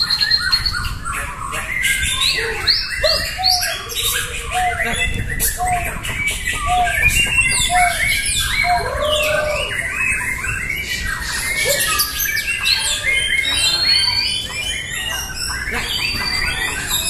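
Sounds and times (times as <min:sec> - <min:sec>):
birds singing with whistles and trills: 0:00.0 - 0:17.0.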